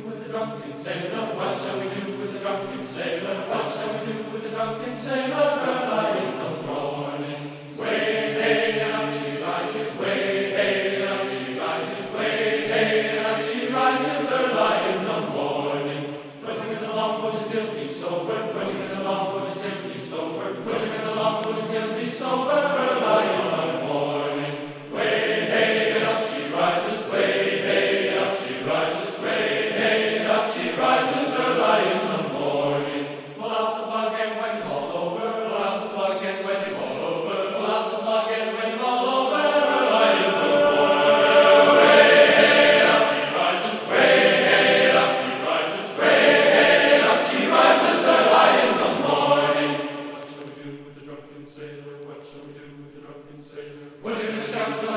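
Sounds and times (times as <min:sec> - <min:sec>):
choir singing: 0:00.0 - 0:54.9.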